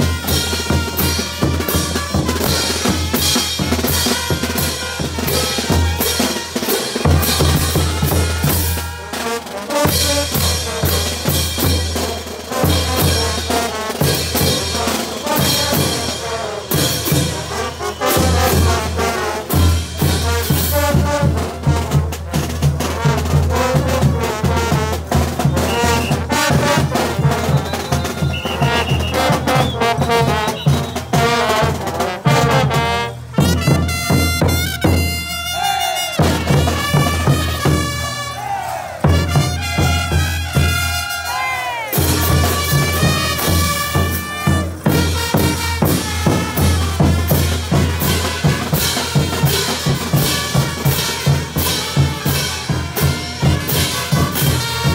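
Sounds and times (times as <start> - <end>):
bass drums: 0.0 - 9.0, 9.8 - 35.4, 36.2 - 41.1, 42.0 - 54.9
brass band playing: 0.0 - 54.9
snare drum: 0.0 - 54.9
trumpets: 0.0 - 54.9
tubas: 0.0 - 54.9.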